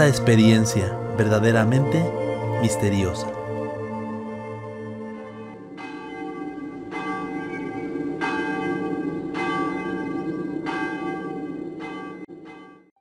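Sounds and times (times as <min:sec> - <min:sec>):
low steady drone: 0:00.0 - 0:12.7
bell tolling: 0:00.0 - 0:12.9.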